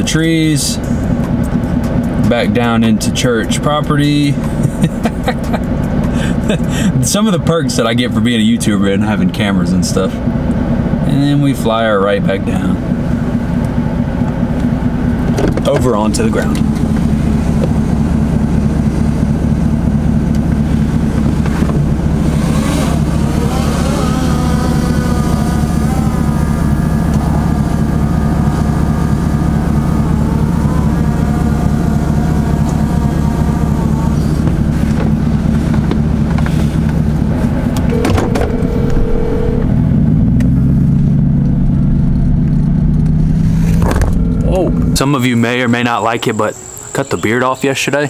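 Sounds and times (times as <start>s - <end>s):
vehicle engine droning: 0.0s - 48.0s.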